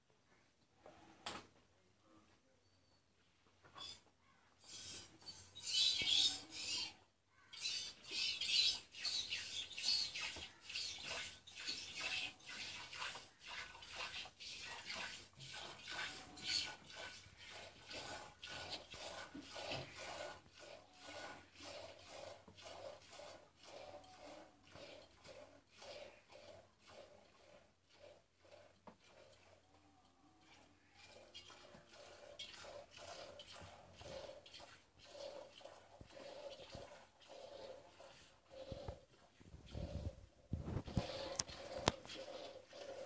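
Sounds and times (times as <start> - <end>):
milk squirting into metal pot: 4.6 - 29.8, 30.4 - 43.0.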